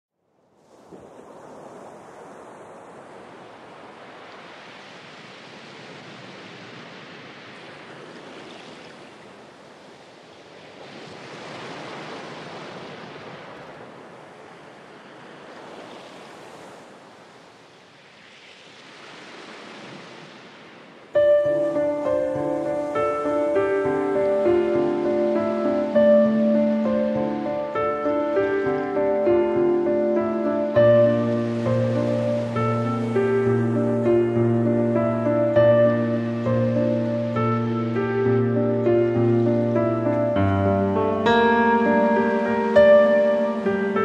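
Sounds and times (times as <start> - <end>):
small waves washing onto beach: 0.5 - 44.0.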